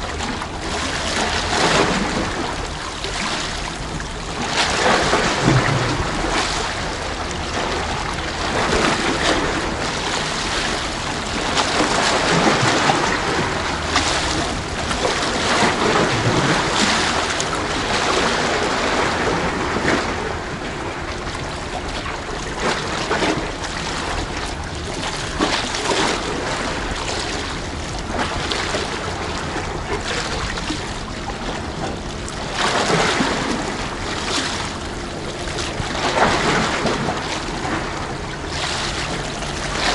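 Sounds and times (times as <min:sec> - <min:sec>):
sea waves against breakwater: 0:00.0 - 0:39.9
wind: 0:00.0 - 0:39.9.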